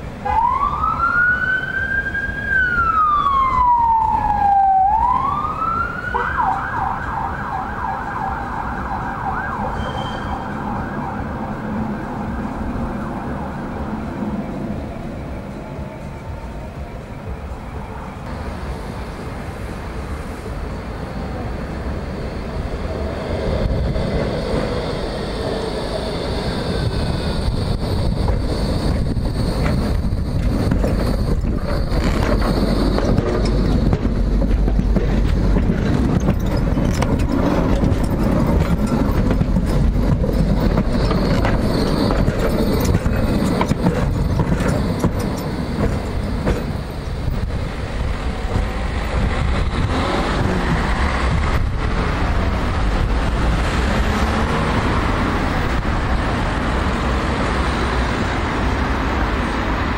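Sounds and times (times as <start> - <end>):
tram passing on rails: 0.0 - 59.9.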